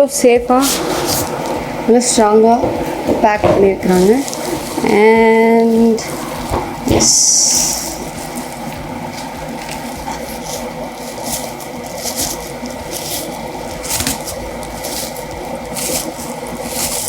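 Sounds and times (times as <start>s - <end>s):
steady background hiss: 0.0s - 17.0s
packaging rustling and scraping: 0.3s - 17.0s.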